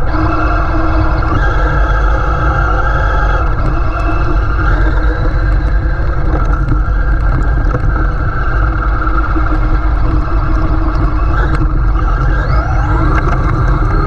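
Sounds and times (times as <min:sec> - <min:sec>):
electric motor and gear whine: 0:00.0 - 0:14.0
heavy low rumble: 0:00.0 - 0:14.0.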